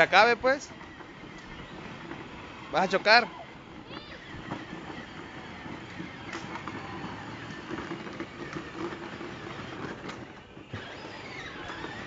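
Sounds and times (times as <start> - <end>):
plastic wheels rolling on brick: 0.0 - 12.0
small electric motor whirring: 0.0 - 12.0.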